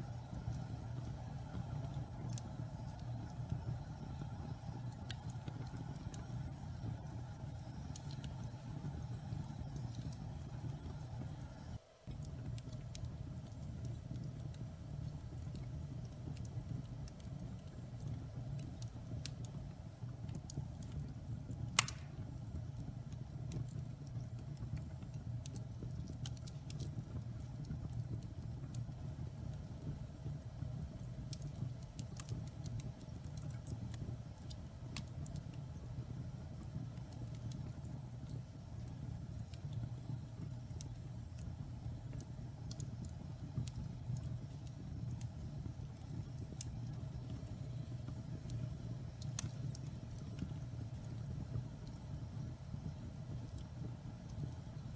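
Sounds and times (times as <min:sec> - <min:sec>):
fire crackling and popping: 0:00.0 - 0:54.9
fire flames rumbling: 0:00.0 - 0:54.9.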